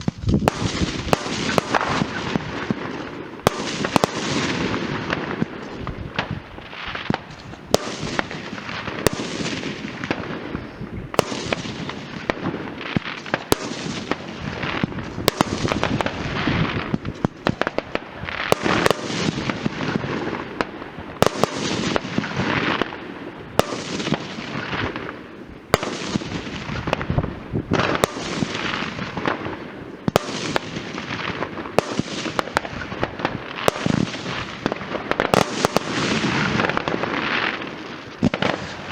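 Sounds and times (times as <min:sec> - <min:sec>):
fireworks bangs: 0:00.0 - 0:38.9
fireworks crackle and hiss: 0:00.0 - 0:38.9.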